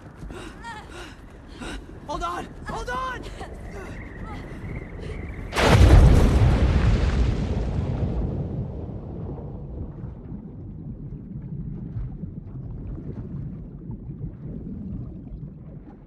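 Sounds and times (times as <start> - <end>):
underwater low rumble: 0.0 - 16.0
bubbles crackling: 3.0 - 16.0.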